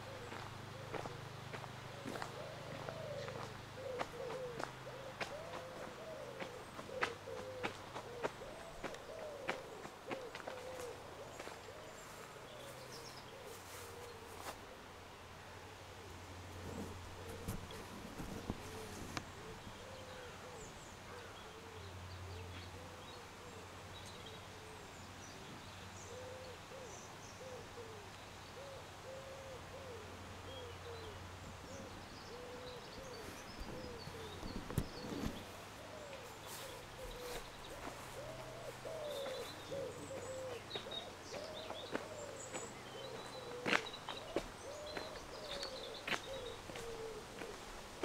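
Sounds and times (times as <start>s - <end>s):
small birds chirping: 0.0s - 14.6s, 16.5s - 47.8s
birds cooing: 0.0s - 48.0s.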